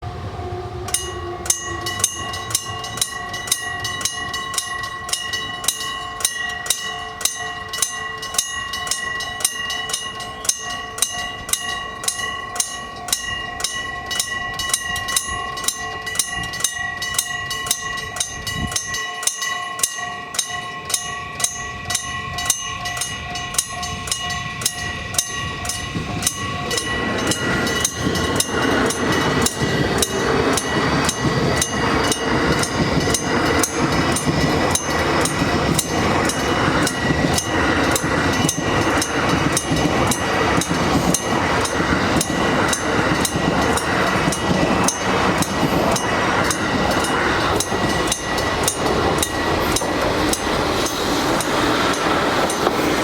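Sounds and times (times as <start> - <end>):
train rumble: 0.0 - 53.0
level crossing bell ringing: 0.9 - 52.7.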